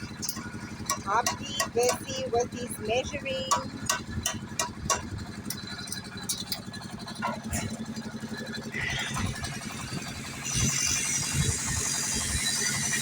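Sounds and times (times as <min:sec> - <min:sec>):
engine pulsing hum: 0:00.0 - 0:13.0.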